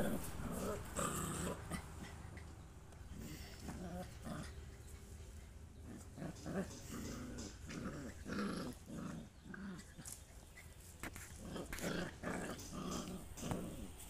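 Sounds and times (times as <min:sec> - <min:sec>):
puppies growling: 0:00.0 - 0:14.0.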